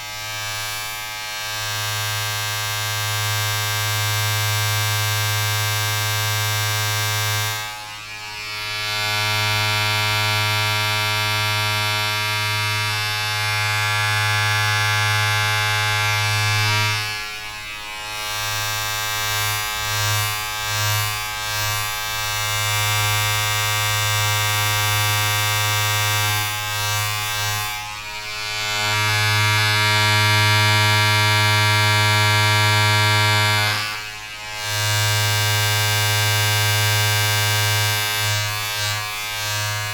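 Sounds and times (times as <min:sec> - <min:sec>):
electric appliance buzzing: 0:00.0 - 0:39.9.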